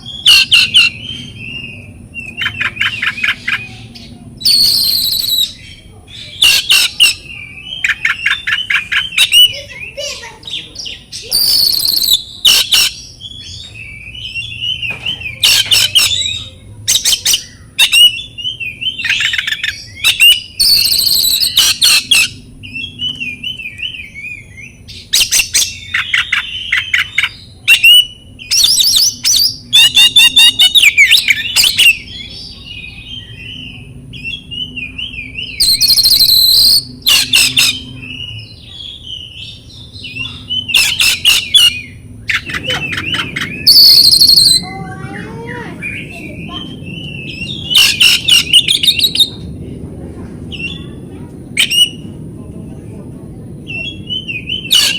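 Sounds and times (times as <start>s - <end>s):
bird whistled phrases and trills: 0.0s - 49.5s, 50.5s - 52.2s, 53.6s - 54.9s.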